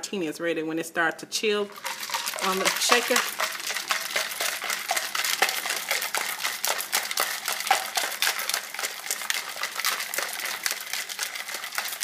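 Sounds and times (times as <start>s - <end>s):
ice rattling in cocktail shaker: 1.7s - 12.0s.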